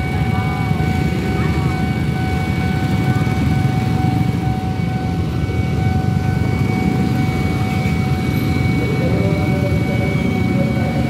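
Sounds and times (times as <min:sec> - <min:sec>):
motorcycle engines idling: 0:00.0 - 0:11.0
railway crossing alarm tone: 0:00.0 - 0:11.0.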